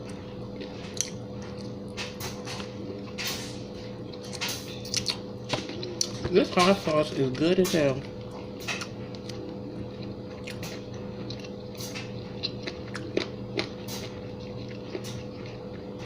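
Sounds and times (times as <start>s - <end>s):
person chewing crunchy food: 0.0s - 16.0s
steady low hum: 0.0s - 16.0s.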